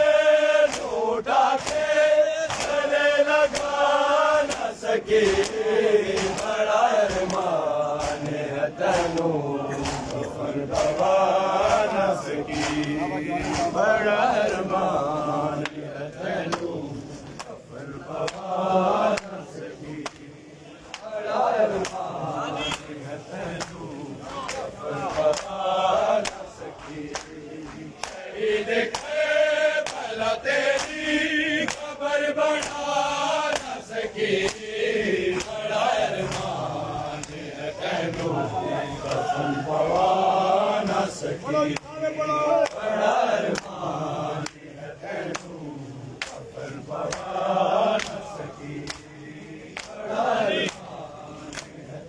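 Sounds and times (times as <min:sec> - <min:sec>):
men chanting together: 0:00.0 - 0:52.0
rhythmic chest slapping: 0:00.0 - 0:52.0.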